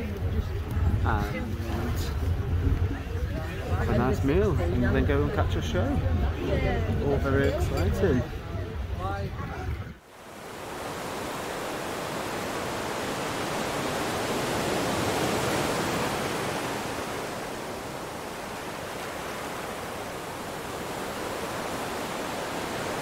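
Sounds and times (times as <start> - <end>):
sea and wind rushing: 0.0 - 23.0.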